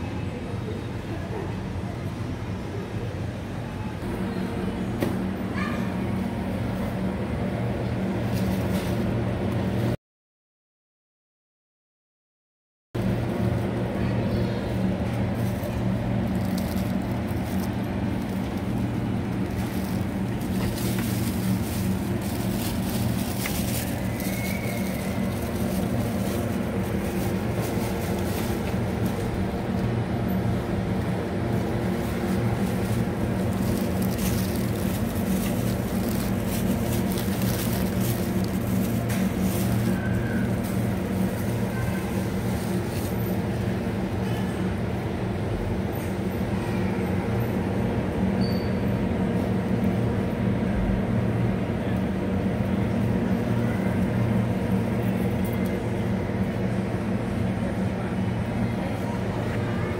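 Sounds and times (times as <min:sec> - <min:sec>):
refrigeration and ventilation hum: 0:00.0 - 0:10.0, 0:13.0 - 0:59.9.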